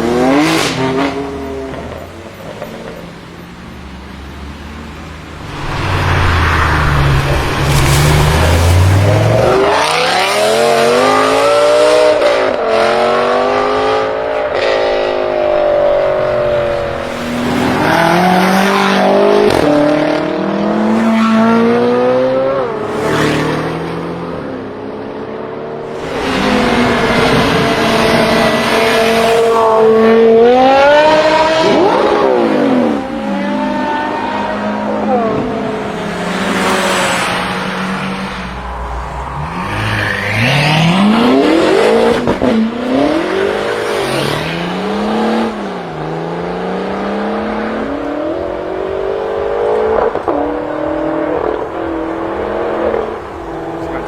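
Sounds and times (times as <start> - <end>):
car engines revving and accelerating: 0.0 - 54.0.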